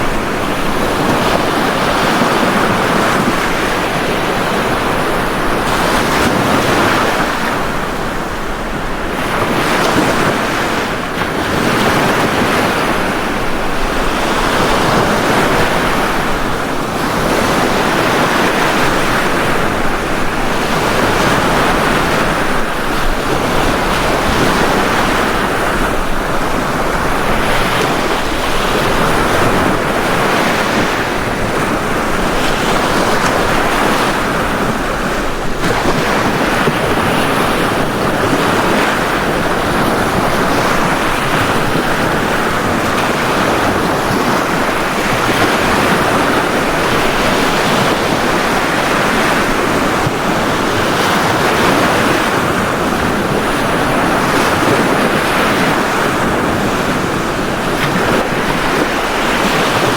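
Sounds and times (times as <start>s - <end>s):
ocean waves breaking on beach: 0.0s - 59.9s
wind on microphone: 0.0s - 59.9s.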